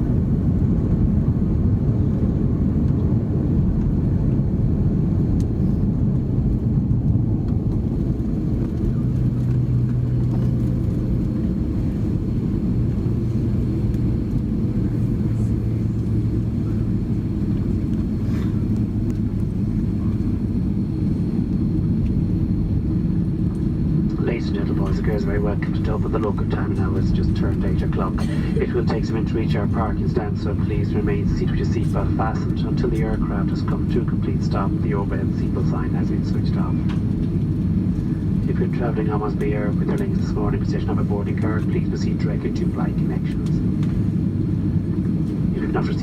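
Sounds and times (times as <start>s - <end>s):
engines and rolling wheels rumbling: 0.0s - 46.0s
low hum: 0.0s - 46.0s.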